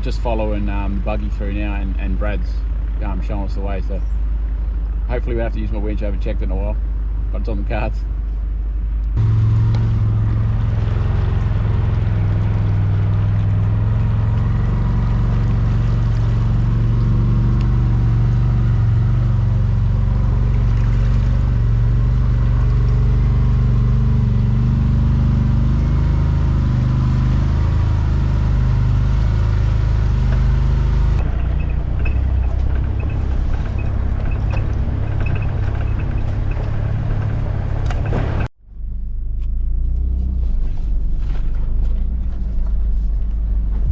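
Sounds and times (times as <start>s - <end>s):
vehicle engine droning: 0.0s - 43.9s.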